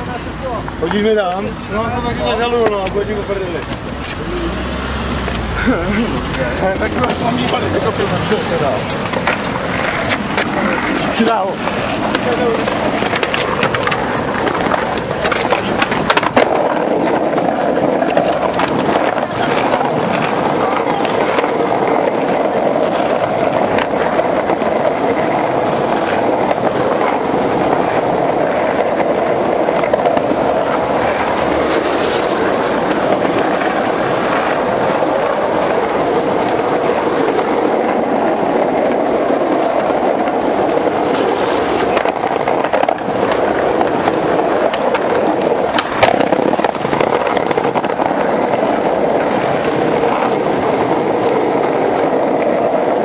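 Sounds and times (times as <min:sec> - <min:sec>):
skateboard wheels rolling on pavement: 0:00.0 - 0:53.0
wheels clicking over cracks: 0:00.0 - 0:53.0.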